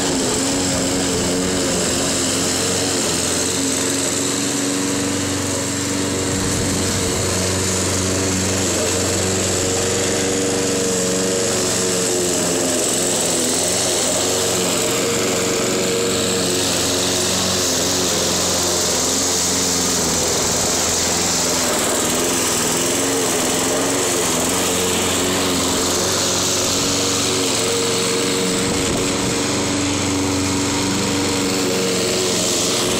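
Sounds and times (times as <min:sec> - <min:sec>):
lawn mower engine running: 0:00.0 - 0:32.9.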